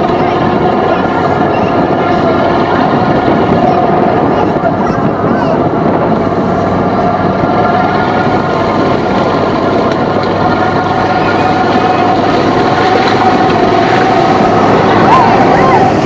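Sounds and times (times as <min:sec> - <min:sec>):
road noise and rattles: 0:00.0 - 0:16.0
vehicle engine droning: 0:00.0 - 0:16.0.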